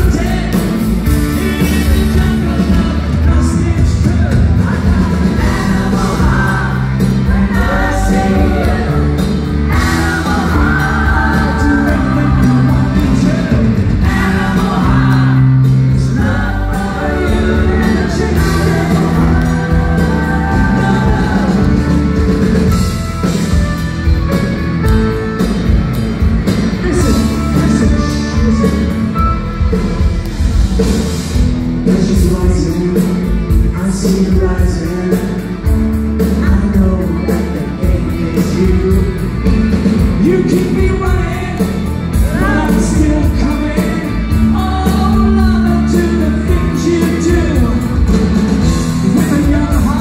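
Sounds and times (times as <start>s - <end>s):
man singing: 0.0s - 22.7s, 26.7s - 29.8s, 31.8s - 50.0s
bass line: 0.0s - 50.0s
keyboards: 0.0s - 50.0s
live rock band: 0.0s - 50.0s.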